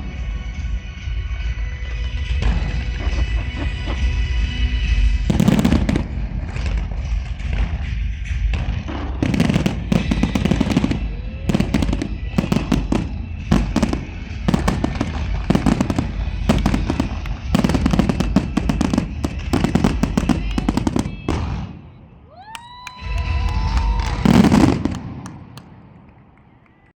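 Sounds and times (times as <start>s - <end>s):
fireworks bangs and crackles: 0.0s - 26.8s
rising firework whistle: 0.3s - 6.2s, 9.2s - 26.6s.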